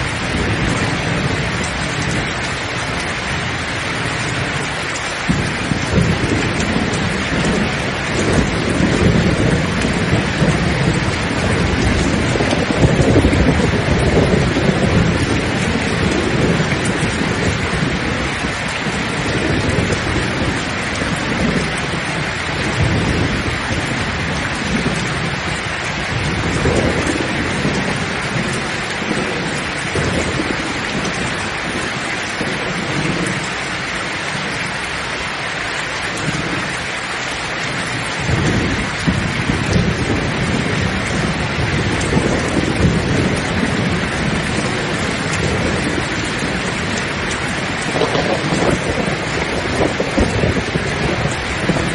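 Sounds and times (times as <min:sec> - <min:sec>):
heavy rain falling: 0:00.0 - 0:51.9
thunder rumbling: 0:00.0 - 0:51.9.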